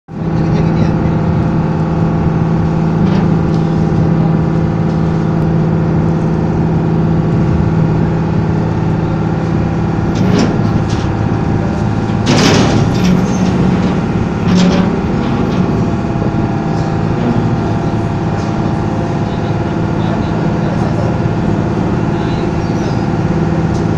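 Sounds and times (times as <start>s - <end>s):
boat engine running: 0.0s - 23.9s
loud burst of noise: 0.2s - 23.9s.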